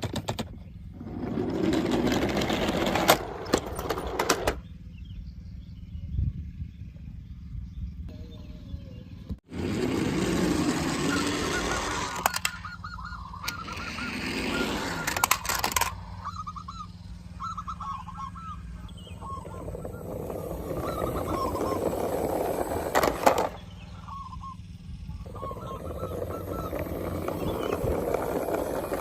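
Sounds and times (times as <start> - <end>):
steady low hum: 0.4 - 29.0.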